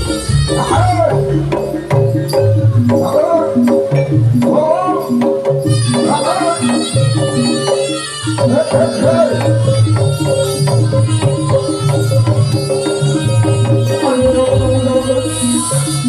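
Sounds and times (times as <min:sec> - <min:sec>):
metal chime notes: 0:00.0 - 0:14.1
hand drums beating: 0:00.0 - 0:16.0.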